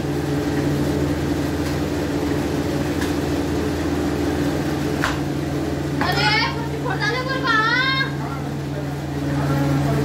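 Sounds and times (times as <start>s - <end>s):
clay mixing machine humming: 0.0s - 10.0s.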